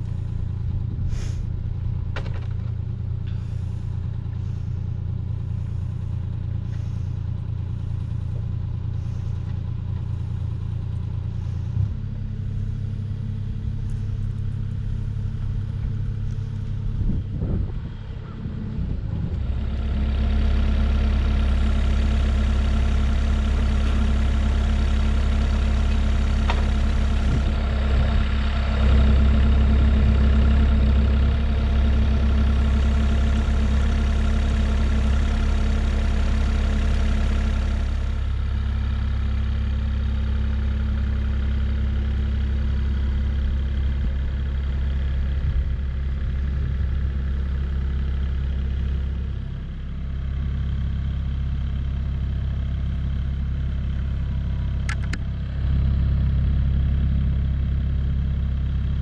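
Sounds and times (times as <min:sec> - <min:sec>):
diesel engine humming: 0:00.0 - 0:59.0.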